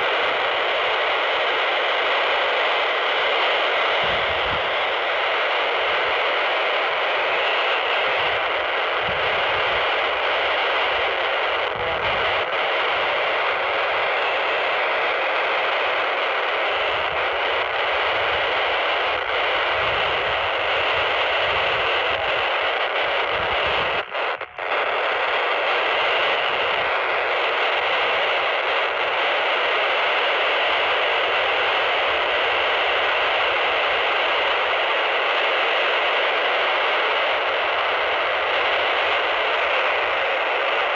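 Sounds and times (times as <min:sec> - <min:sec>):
radio static hiss: 0:00.0 - 0:40.9.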